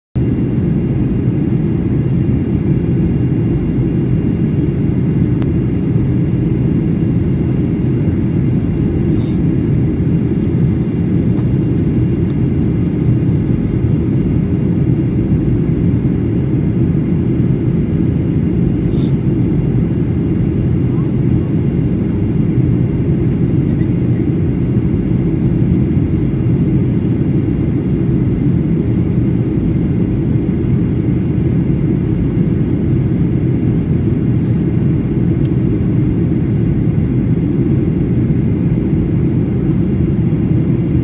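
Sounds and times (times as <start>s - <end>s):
aircraft cabin engine rumble: 0.2s - 41.0s.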